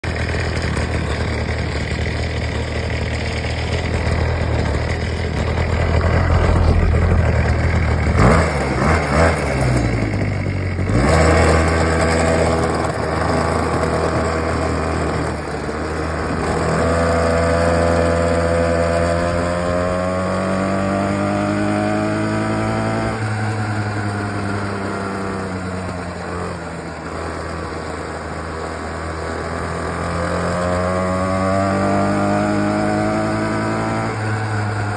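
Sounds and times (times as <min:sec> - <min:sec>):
two-stroke minibike engine revving: 0:00.0 - 0:34.9.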